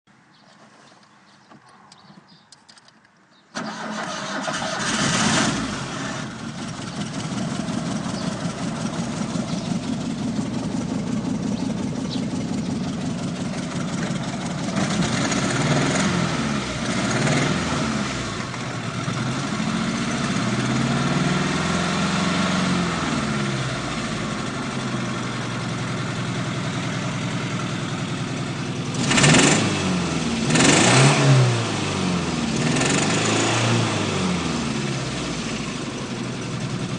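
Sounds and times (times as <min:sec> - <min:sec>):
car engine starting and revving: 0:03.6 - 0:36.9.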